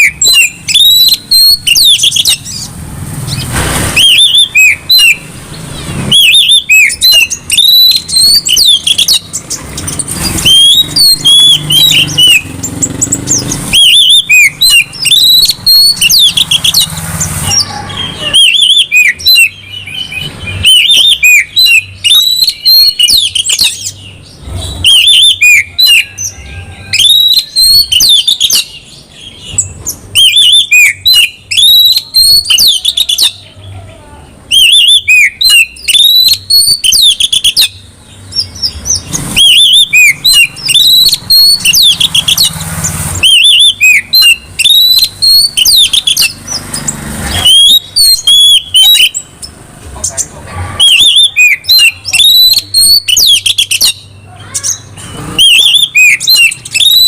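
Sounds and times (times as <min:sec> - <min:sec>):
bird whistling and chirping: 0:00.0 - 0:33.5, 0:34.5 - 0:49.6, 0:50.8 - 0:57.0.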